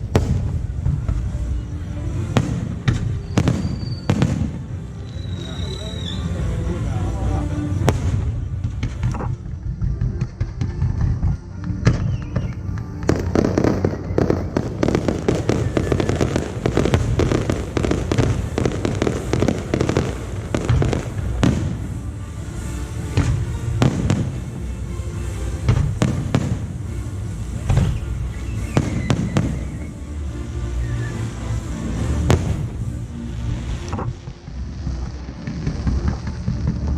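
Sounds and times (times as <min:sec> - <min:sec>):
fireworks bangs and crackles: 0:00.0 - 0:36.9
deep rolling rumble: 0:06.2 - 0:36.9.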